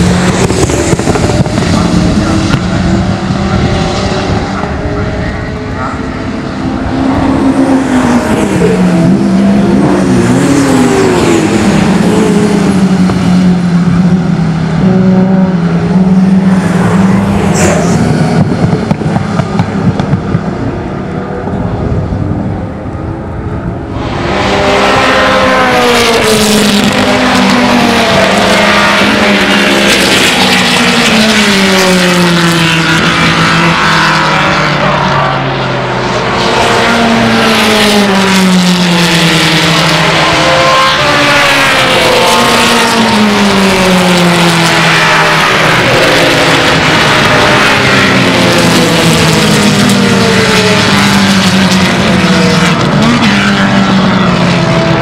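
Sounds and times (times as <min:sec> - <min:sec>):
race cars passing by: 0:00.0 - 0:55.0
racing car engines at full throttle: 0:00.0 - 0:55.0.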